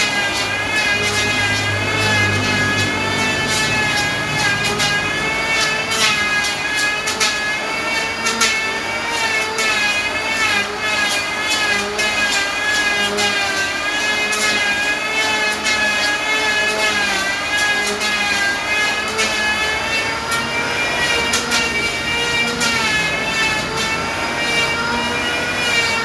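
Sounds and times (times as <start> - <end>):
electric planer whining: 0.0 - 26.0.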